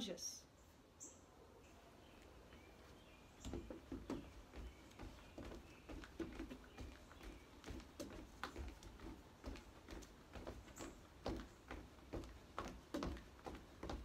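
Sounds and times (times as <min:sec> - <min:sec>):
footsteps on wooden deck: 0:02.1 - 0:14.0.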